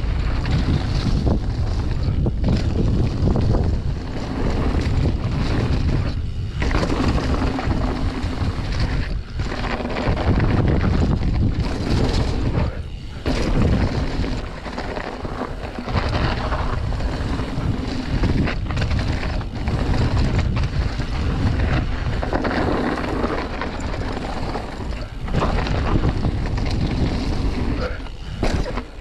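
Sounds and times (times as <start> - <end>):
mountain bike rumbling on trail: 0.0 - 29.0
wind buffeting microphone: 0.0 - 29.0.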